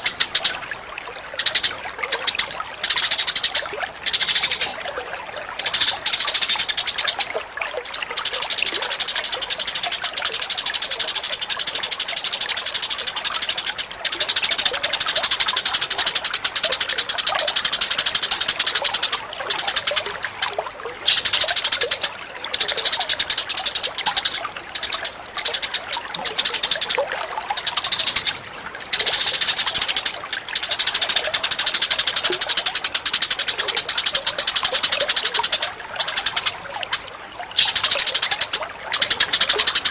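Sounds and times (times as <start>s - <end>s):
songbird chattering: 0.0s - 0.6s, 1.3s - 4.8s, 5.5s - 20.1s, 21.0s - 36.6s, 37.6s - 39.9s
running water: 0.0s - 39.9s.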